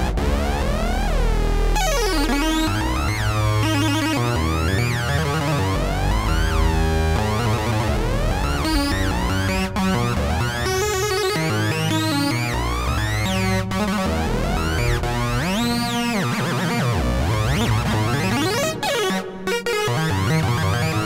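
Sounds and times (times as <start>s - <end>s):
synthesizer notes with pitch sweeps: 0.0s - 21.0s.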